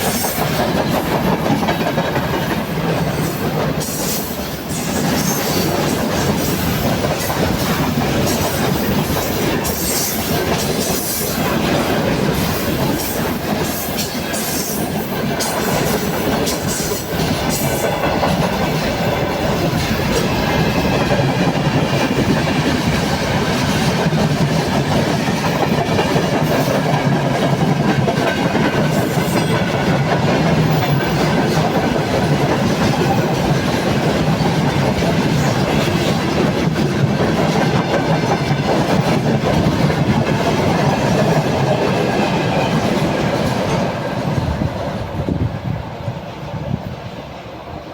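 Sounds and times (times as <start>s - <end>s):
freight train rumbling past: 0.0s - 47.9s.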